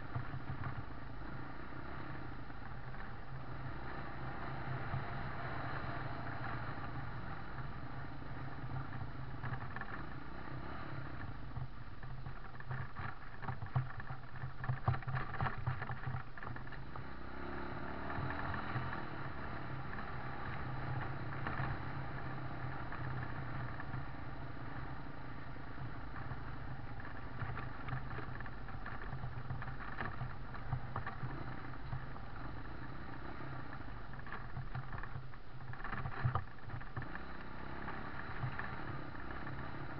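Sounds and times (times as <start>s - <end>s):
gravel road noise: 0.0s - 39.9s
vehicle engine hum: 0.0s - 39.9s.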